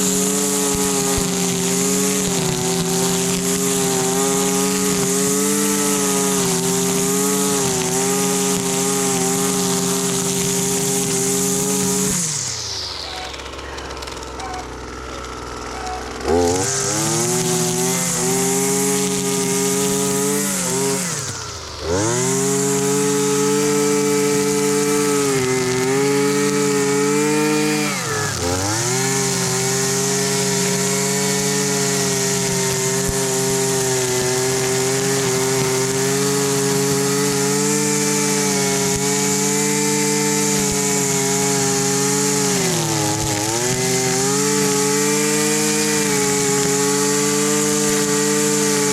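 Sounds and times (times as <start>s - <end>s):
string trimmer engine running: 0.0s - 48.9s.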